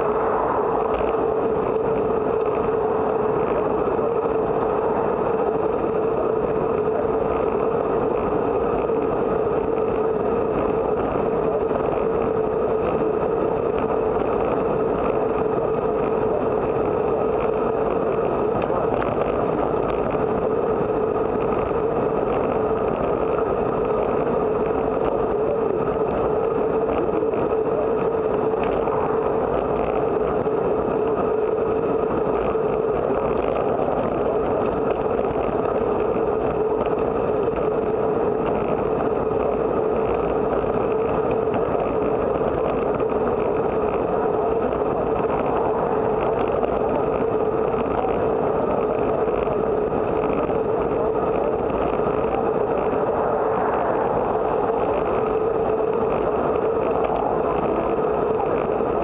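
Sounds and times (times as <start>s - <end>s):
bicycle tyre noise on asphalt: 0.0s - 59.0s
constant drone: 0.0s - 59.0s
wind rush: 0.0s - 59.0s.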